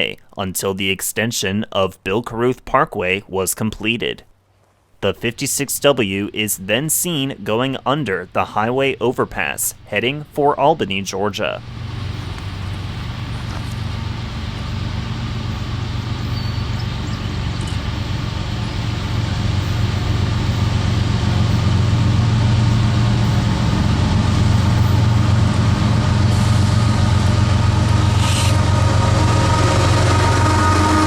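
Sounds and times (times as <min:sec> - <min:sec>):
diesel locomotive engine drone: 0:05.0 - 0:31.0.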